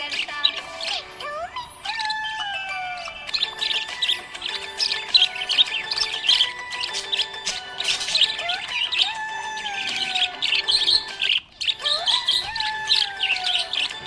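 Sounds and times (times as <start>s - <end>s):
budgerigars chirping: 0.0s - 14.0s
whistled notes: 0.0s - 14.0s.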